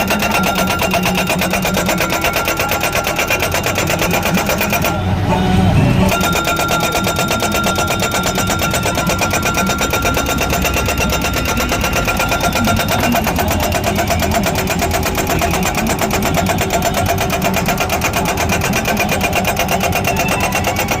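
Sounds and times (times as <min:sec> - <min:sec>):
hammer machine pounding rhythmically: 0:00.0 - 0:21.0.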